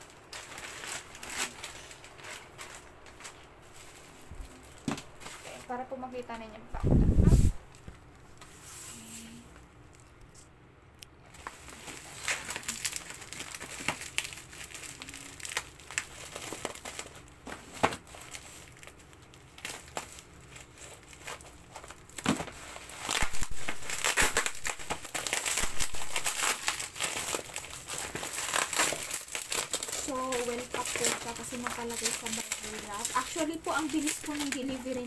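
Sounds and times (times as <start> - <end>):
bubble wrap crinkling: 0.0 - 10.5, 11.2 - 35.0.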